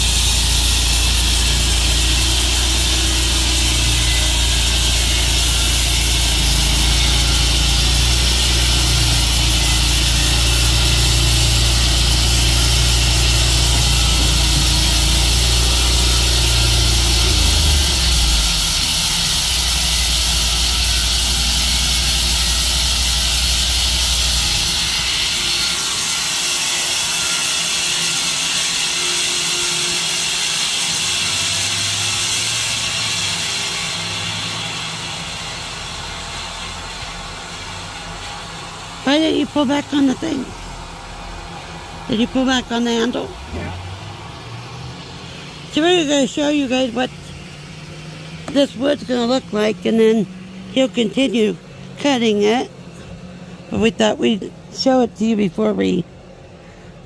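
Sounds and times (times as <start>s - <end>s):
high hiss: 0.0s - 52.0s
sawmill cutting a log: 0.0s - 57.0s.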